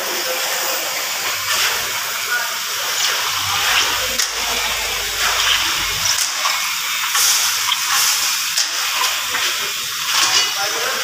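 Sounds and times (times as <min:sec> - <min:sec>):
concrete pump hissing: 0:00.3 - 0:11.0.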